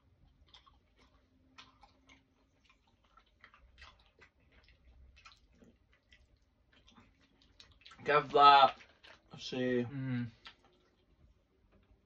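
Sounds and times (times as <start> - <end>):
people chewing sweets: 0.0 - 12.0.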